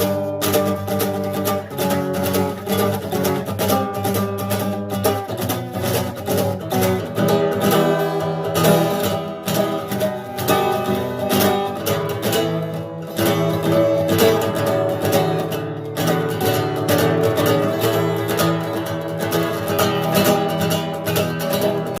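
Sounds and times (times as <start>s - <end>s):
fast bluegrass string picking: 0.0s - 22.0s.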